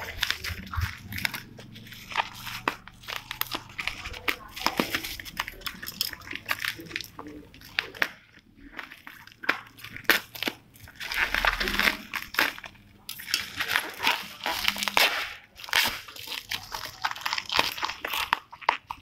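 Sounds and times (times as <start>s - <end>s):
bubble wrap crinkling and crackling: 0.0s - 19.0s.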